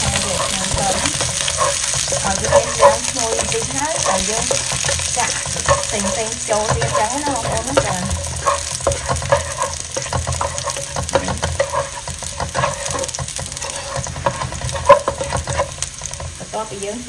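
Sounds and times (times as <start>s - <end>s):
spatula scraping and tapping pan: 0.0s - 16.7s
garlic sizzling in hot oil: 0.0s - 17.0s.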